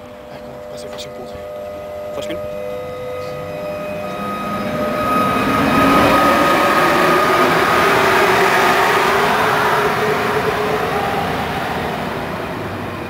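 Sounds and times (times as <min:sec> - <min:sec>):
electric locomotive whine: 0:00.0 - 0:13.0
train rushing on rails: 0:00.0 - 0:13.0.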